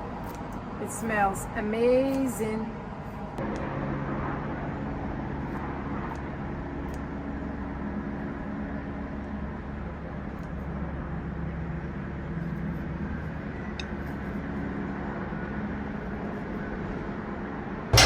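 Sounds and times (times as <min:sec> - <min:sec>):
faint hum: 0:00.0 - 0:18.0
steady low rumble: 0:02.7 - 0:18.0.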